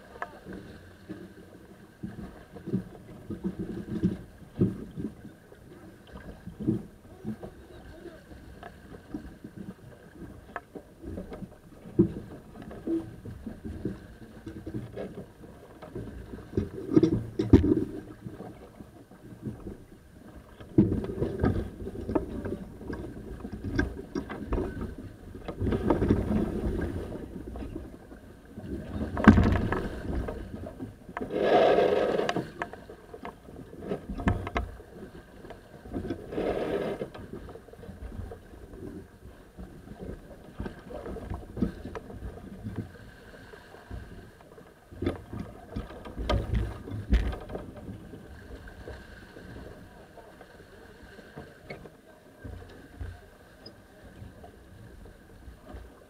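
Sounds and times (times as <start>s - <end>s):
water and wind rushing: 0.0s - 56.0s.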